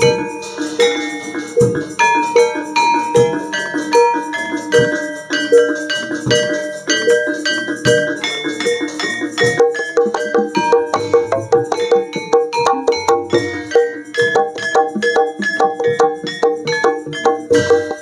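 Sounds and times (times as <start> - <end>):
metallophones ringing notes: 0.0 - 18.0.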